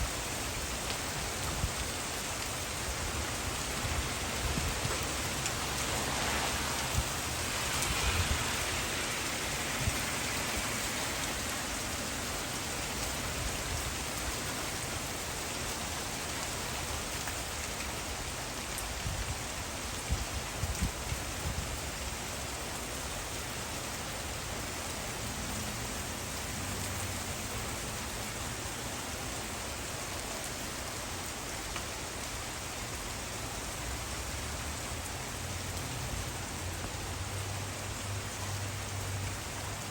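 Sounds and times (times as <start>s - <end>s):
heavy rain and hail falling: 0.0s - 39.9s.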